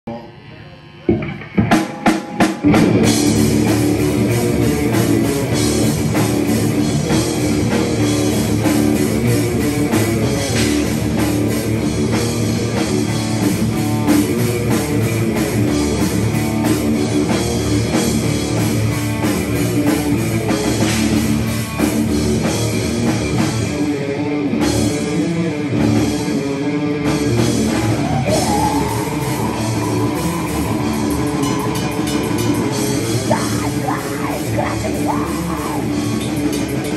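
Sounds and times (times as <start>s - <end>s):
bass guitar: 0.0s - 36.9s
electric guitar: 0.1s - 36.9s
drum kit: 1.1s - 36.9s.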